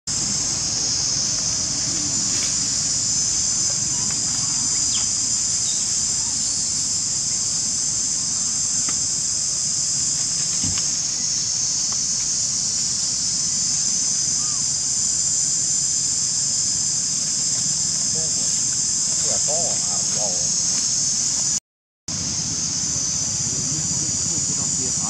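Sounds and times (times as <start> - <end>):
insect chorus drone: 0.1 - 25.0.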